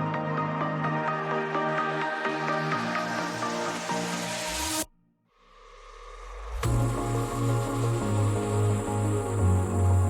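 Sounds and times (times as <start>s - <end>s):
electronic music with steady beat: 0.0s - 4.9s, 6.6s - 10.0s.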